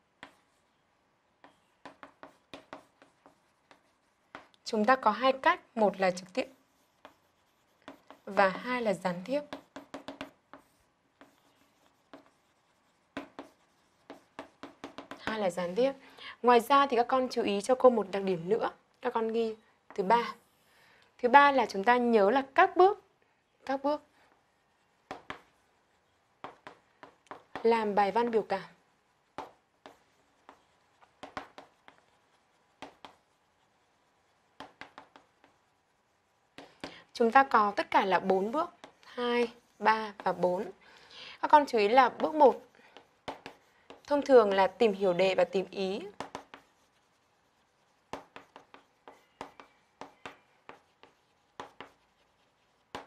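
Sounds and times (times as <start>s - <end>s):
chalk tapping on a chalkboard: 0.2s - 0.5s, 1.4s - 15.8s, 23.6s - 40.8s, 41.4s - 53.0s.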